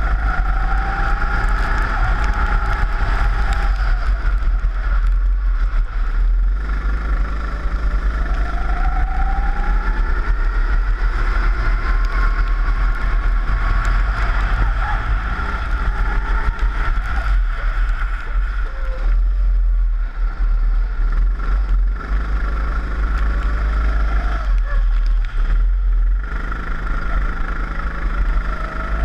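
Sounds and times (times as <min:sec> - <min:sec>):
heavy low rumble: 0:00.0 - 0:29.0
kart engine running hard: 0:00.0 - 0:29.0.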